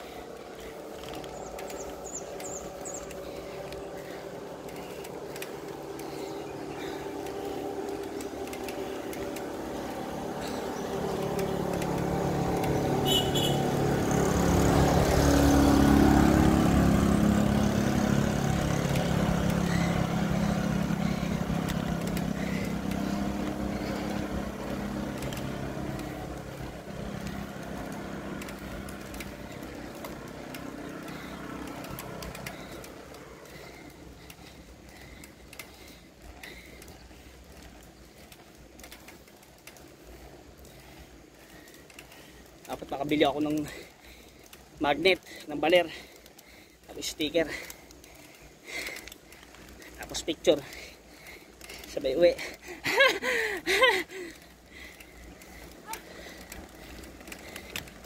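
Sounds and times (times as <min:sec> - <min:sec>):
vehicle engine passing: 0:00.0 - 0:44.9, 0:47.0 - 0:58.0.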